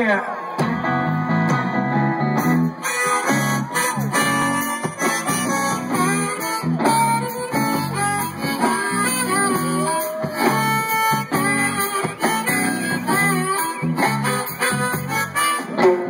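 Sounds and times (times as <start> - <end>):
drums: 0.0 - 16.0
guitar strumming: 0.6 - 16.0
electric bass: 0.8 - 16.0.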